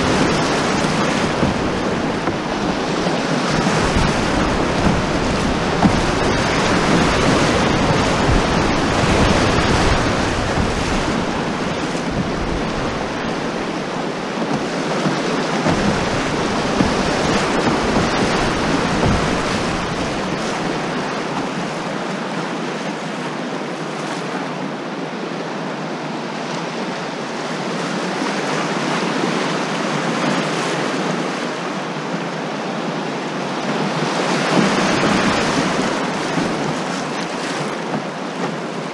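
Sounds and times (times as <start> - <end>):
whitewater rapids rushing: 0.0 - 38.9.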